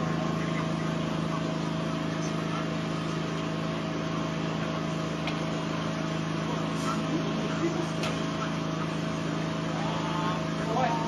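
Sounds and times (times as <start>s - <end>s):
low droning motor hum: 0.0s - 11.0s.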